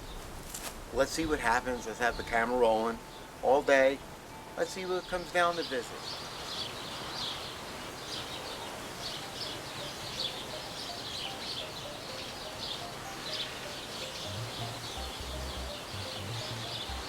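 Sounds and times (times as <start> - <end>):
outdoor background hiss: 0.0 - 17.0
small birds chirping: 0.9 - 17.0.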